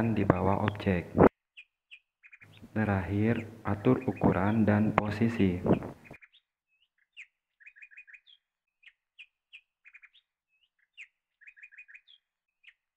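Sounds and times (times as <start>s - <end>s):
small bird chirping: 1.4s - 4.6s, 5.4s - 12.9s.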